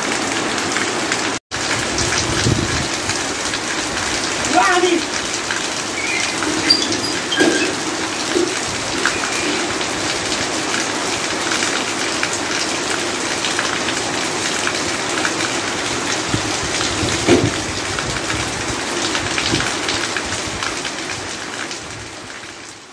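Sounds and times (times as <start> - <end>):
water pouring and splashing: 0.0 - 22.4
heavy rain on a tin roof: 0.0 - 22.9.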